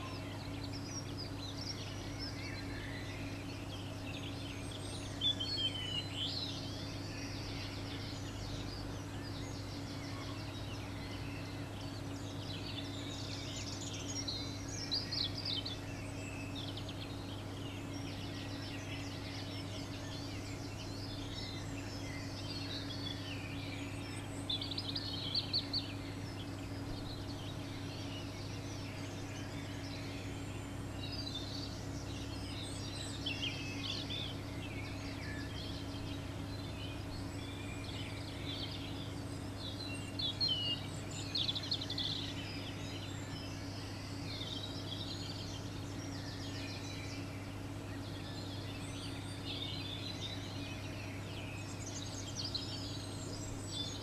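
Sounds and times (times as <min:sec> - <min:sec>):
finch twittering and chirping: 0:00.0 - 0:54.0
steady low hum: 0:00.0 - 0:54.0.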